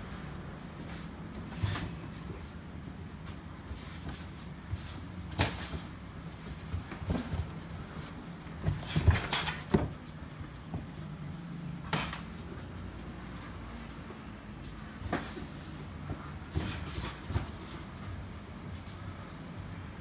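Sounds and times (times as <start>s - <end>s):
footwork on a canvas mat: 0.0s - 20.0s.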